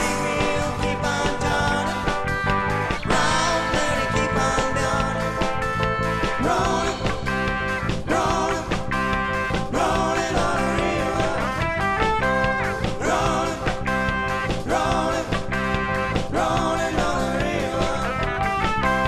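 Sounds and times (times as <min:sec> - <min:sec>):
bass guitar: 0:00.0 - 0:19.0
drums: 0:00.0 - 0:19.0
electric guitar: 0:00.0 - 0:19.0
keyboard: 0:00.0 - 0:19.0.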